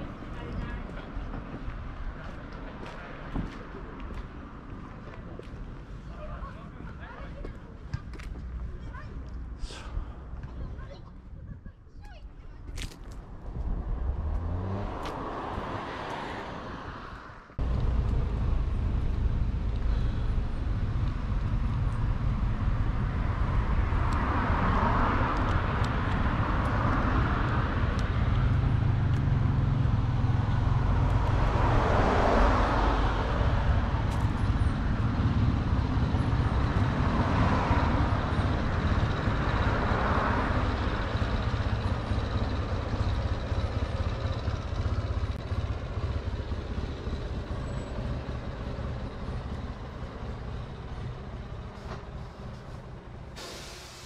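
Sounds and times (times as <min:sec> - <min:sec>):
road traffic rumble: 0:00.0 - 0:54.0
vehicles passing: 0:00.0 - 0:54.0.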